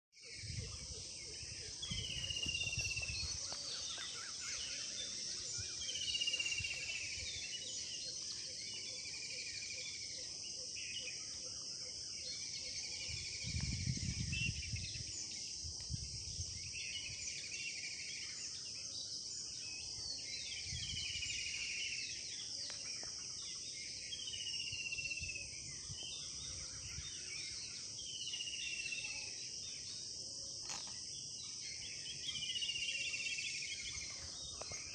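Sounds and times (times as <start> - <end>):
insects chirring: 0.2 - 34.9.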